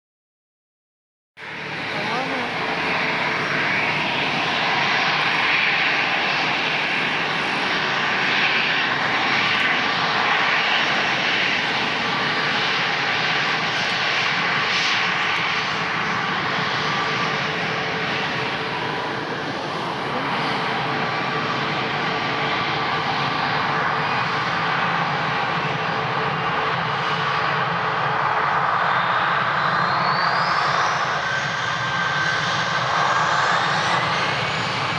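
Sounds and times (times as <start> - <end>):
jet airliner engines running: 1.4 - 34.9.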